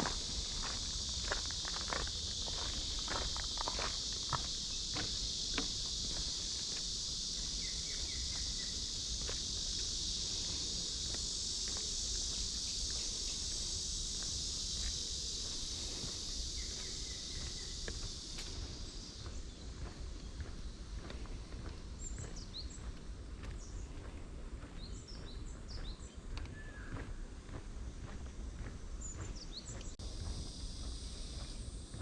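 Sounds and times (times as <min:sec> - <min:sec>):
cicadas buzzing: 0:00.0 - 0:32.0
faint footsteps on a path: 0:00.0 - 0:32.0.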